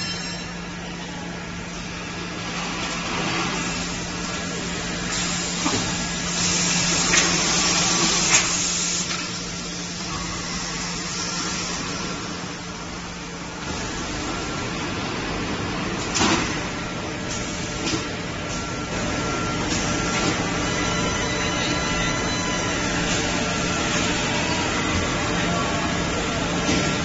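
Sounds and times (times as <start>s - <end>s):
machine hum: 0.5s - 27.0s.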